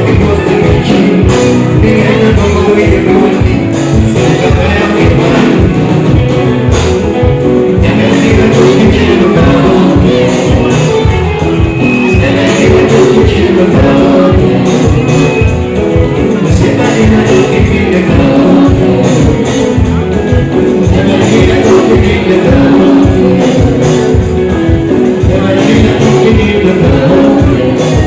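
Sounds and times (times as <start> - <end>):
guitar: 0.0 - 28.0
live band music with driving beat: 0.0 - 28.0
person singing: 0.0 - 28.0.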